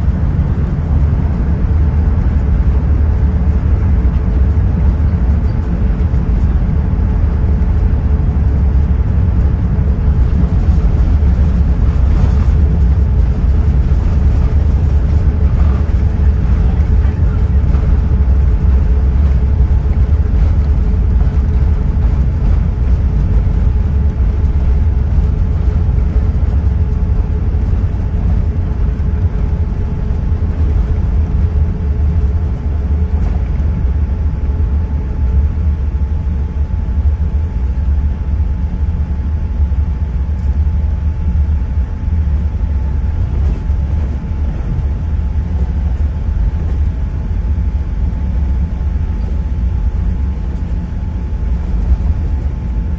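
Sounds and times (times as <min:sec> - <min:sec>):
airplane cabin rumble: 0:00.0 - 0:52.9
faint hum: 0:00.0 - 0:52.9.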